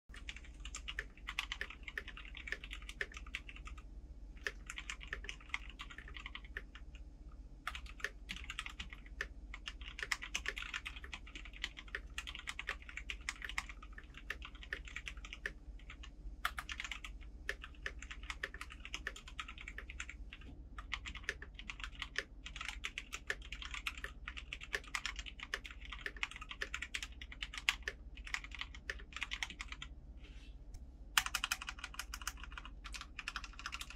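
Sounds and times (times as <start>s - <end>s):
mechanical keyboard typing: 0.1s - 3.8s, 4.4s - 7.0s, 7.7s - 29.9s, 31.2s - 33.9s.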